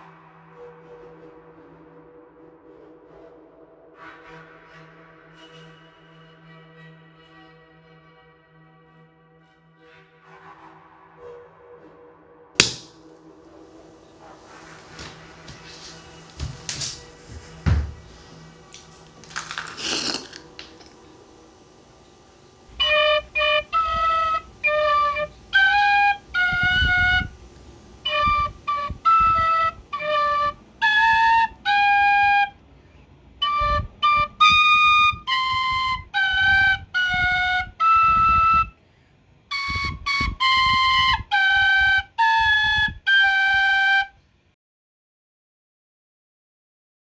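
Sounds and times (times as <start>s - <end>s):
solo flute melody: 0.0s - 8.2s, 8.9s - 19.2s, 20.6s - 32.6s, 33.3s - 38.8s, 39.5s - 44.2s.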